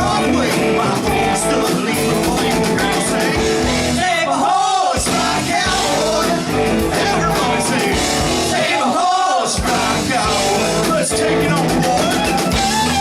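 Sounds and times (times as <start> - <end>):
sliding lead guitar line: 0.0 - 4.4, 5.0 - 13.0
rock band playing: 0.0 - 13.0.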